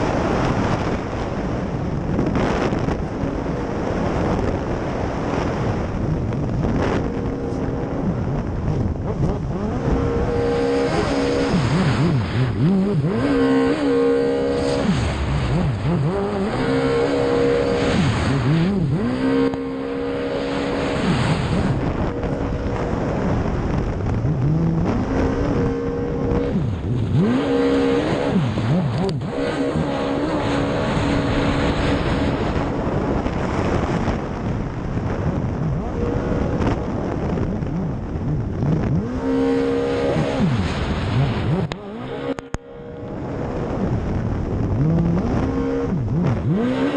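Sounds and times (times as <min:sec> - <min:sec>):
water rushing: 0:00.0 - 0:46.9
watercraft engine revving: 0:00.0 - 0:46.9
wind: 0:00.0 - 0:46.9.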